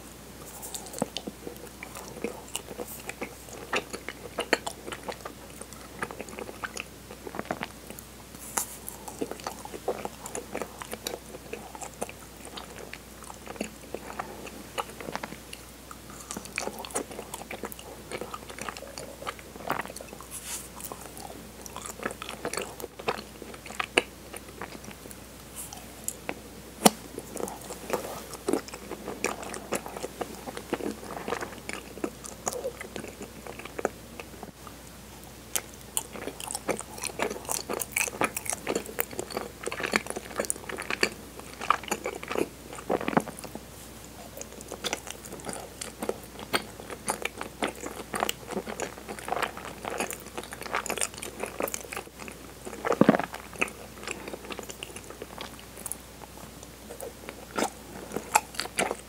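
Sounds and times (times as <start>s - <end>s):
chewing with mouth clicks: 0.4s - 59.0s.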